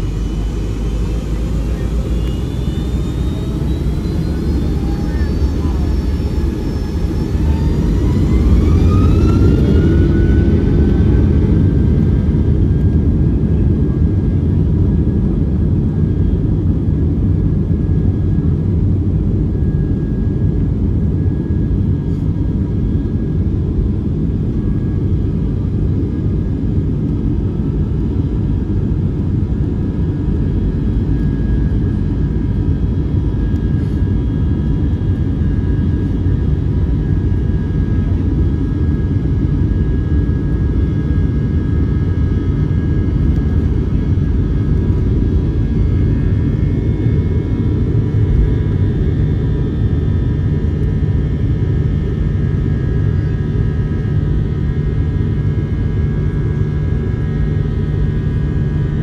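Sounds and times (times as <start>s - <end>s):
faint jet engine whine: 0.0s - 59.0s
jet engine low rumble: 0.0s - 59.0s.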